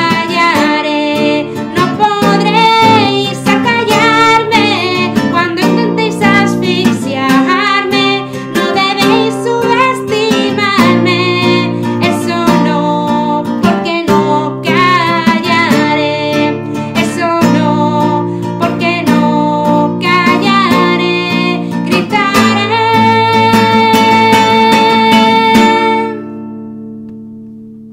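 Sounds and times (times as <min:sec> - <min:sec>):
woman singing: 0:00.0 - 0:26.4
classical guitar strumming: 0:00.0 - 0:27.9.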